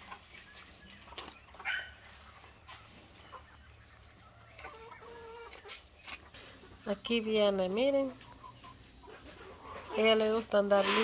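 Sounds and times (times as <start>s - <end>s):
hen clucking: 0.0s - 11.0s.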